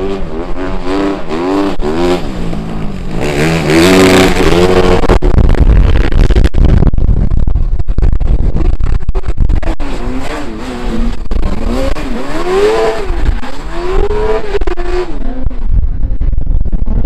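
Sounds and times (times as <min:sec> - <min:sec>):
racing car engines revving: 0:00.0 - 0:06.5, 0:08.2 - 0:16.2.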